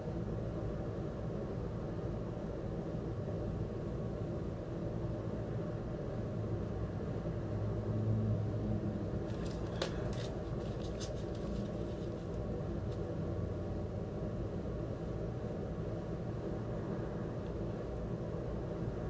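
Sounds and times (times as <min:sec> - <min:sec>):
low room rumble: 0:00.0 - 0:19.0.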